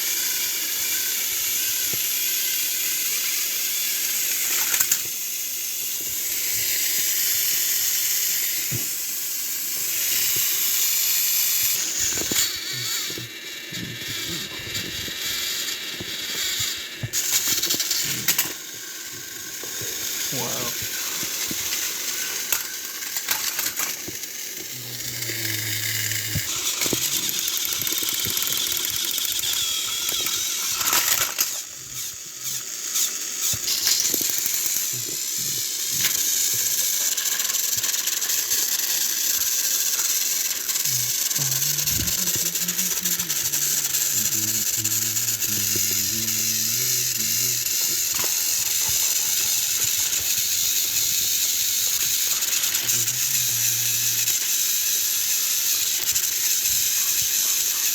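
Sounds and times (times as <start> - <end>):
toy train motor whine: 0.0 - 57.9
wheels rattling on plastic track: 0.2 - 8.9, 14.0 - 57.9.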